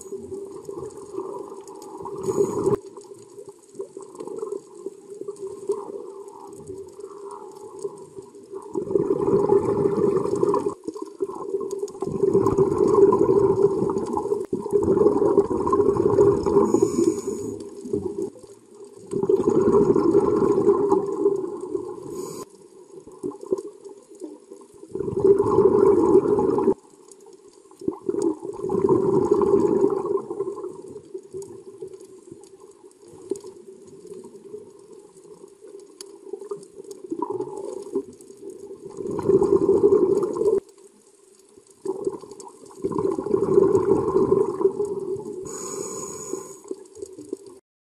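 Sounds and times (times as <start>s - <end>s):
exhaled bubbles underwater: 0.0s - 27.0s, 27.6s - 40.7s, 41.6s - 47.6s.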